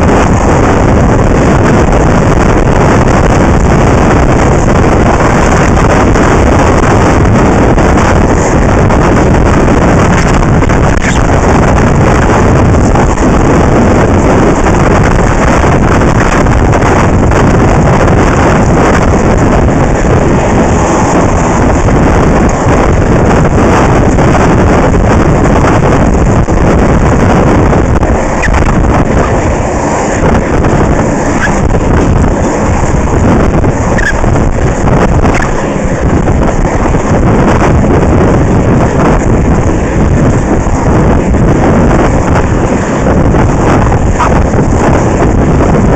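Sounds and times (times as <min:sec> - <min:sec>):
skate wheels rolling on asphalt: 0:00.0 - 0:45.9
wind buffeting microphone: 0:00.0 - 0:45.9.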